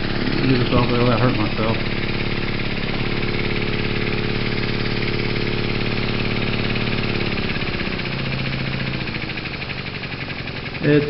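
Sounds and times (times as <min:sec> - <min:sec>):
model steam engine exhaust chuffs: 0:00.0 - 0:11.0
steady hum: 0:00.0 - 0:11.0.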